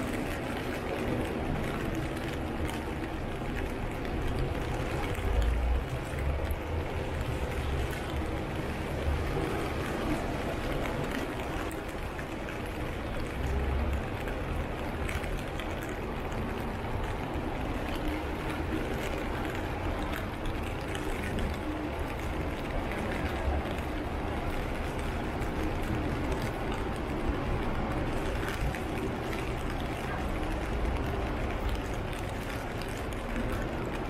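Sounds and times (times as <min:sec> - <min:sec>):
rainy street noise: 0:00.0 - 0:34.0.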